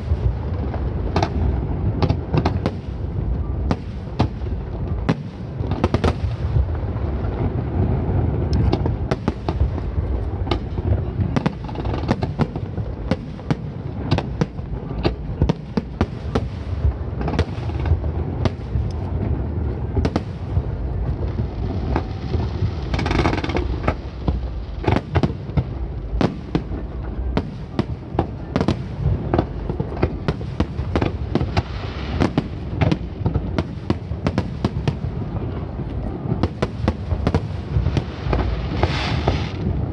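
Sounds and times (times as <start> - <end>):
fireworks booming: 0.0 - 39.9
fireworks sharp cracks: 0.0 - 39.9.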